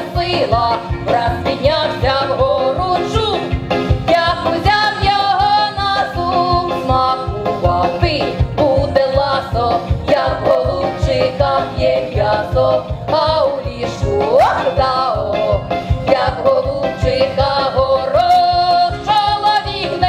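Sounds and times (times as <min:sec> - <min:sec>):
women singing together: 0:00.0 - 0:03.5, 0:04.1 - 0:20.0.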